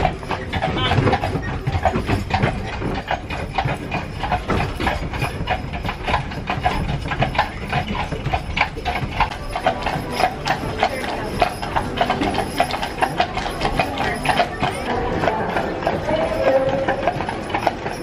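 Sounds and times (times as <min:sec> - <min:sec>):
carriage rolling rumble: 0:00.0 - 0:18.0
horse hooves clip-clopping on pavement: 0:00.0 - 0:18.0.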